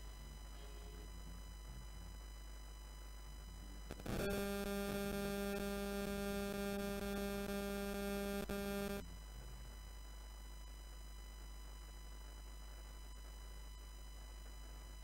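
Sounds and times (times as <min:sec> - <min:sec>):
electrical mains hum: 0:00.0 - 0:15.0
crackle: 0:02.2 - 0:15.0.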